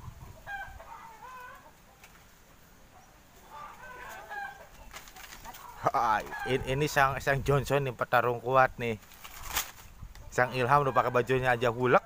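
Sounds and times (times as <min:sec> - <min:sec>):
chickens clucking faintly: 0:00.0 - 0:12.0.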